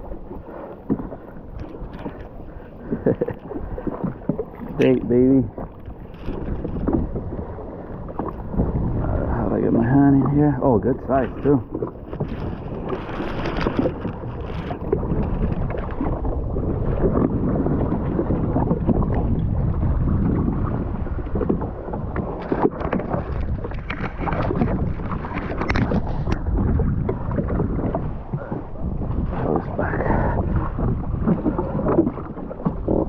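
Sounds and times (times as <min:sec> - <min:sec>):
water sloshing against hull: 0:00.0 - 0:33.0
wind buffeting microphone: 0:00.0 - 0:33.0.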